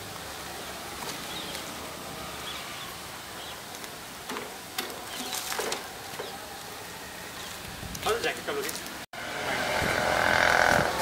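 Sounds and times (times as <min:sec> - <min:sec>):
outdoor background hum: 0:00.0 - 0:11.0.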